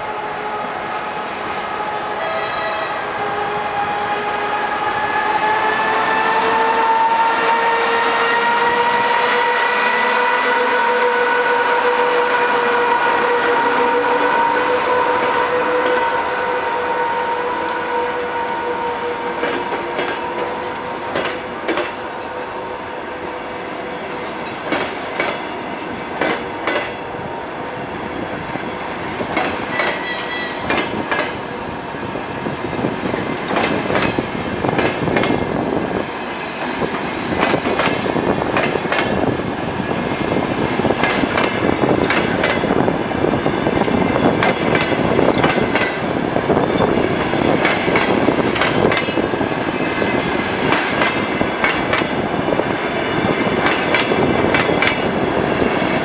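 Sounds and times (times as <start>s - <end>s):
train coaches rolling: 0.0s - 56.0s.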